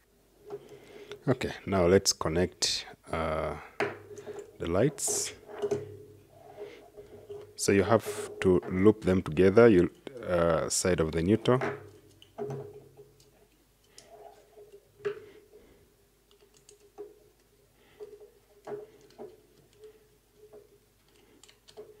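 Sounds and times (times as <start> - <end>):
faint steady hum: 0.0 - 22.0
wires being handled: 3.8 - 22.0.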